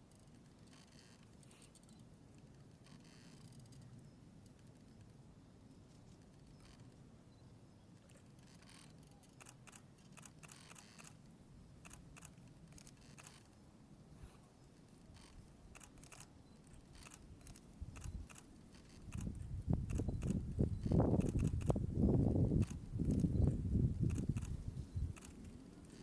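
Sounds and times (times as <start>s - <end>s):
small clicks: 0.1s - 5.2s, 8.0s - 13.6s, 15.0s - 21.8s, 22.5s - 26.0s.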